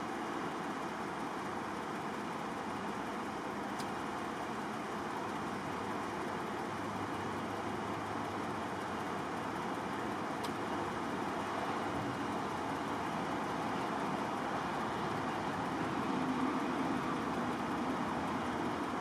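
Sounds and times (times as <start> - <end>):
highway traffic hiss: 0.0 - 19.0.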